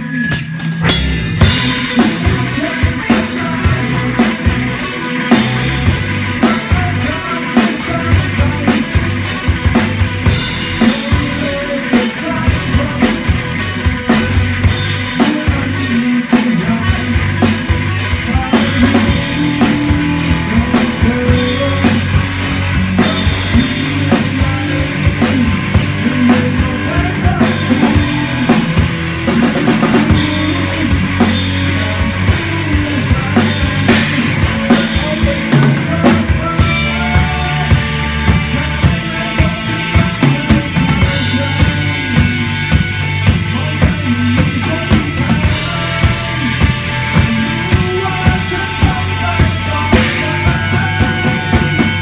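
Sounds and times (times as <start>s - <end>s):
loud drum-heavy music with bass: 0.0s - 52.0s.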